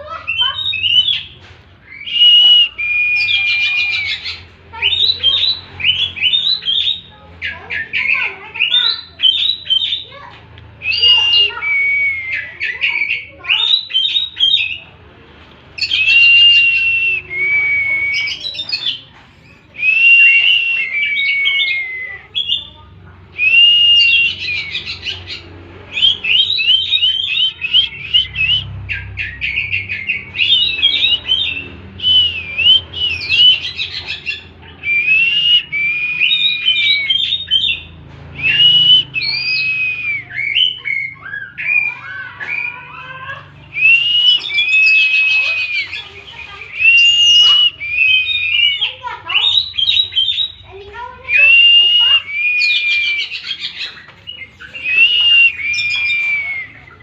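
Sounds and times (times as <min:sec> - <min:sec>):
bird singing whistled phrases: 0:00.3 - 0:10.1, 0:10.8 - 0:14.8, 0:15.8 - 0:57.0.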